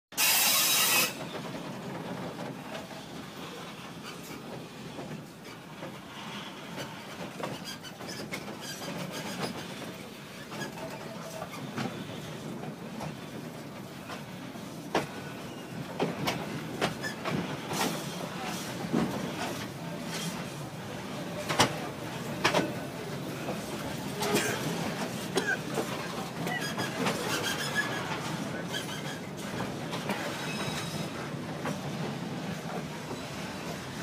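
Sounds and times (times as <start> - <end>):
train carriage rumble and rattle: 0.1 - 34.0.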